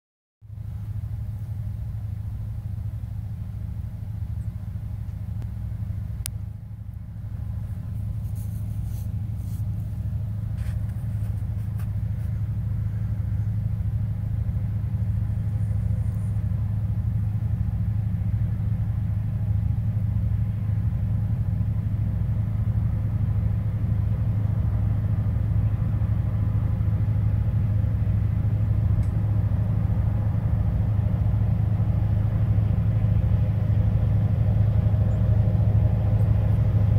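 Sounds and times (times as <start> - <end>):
locomotive engine drone: 0.4 - 36.9.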